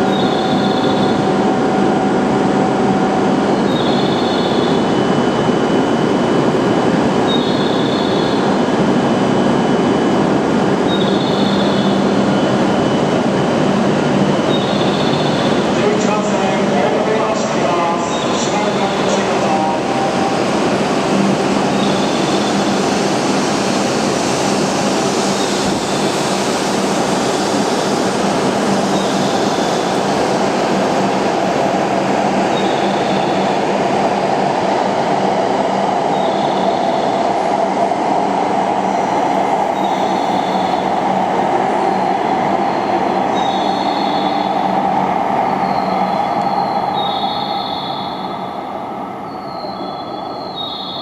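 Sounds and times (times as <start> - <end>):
train rushing past: 0.0 - 51.0.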